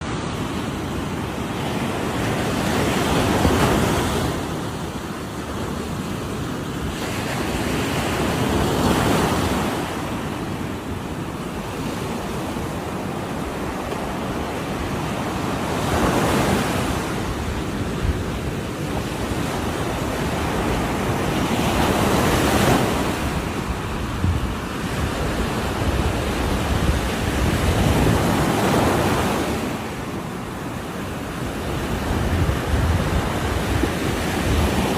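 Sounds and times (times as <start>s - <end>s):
ocean waves breaking: 0.0s - 34.9s
wind on microphone: 0.0s - 34.9s.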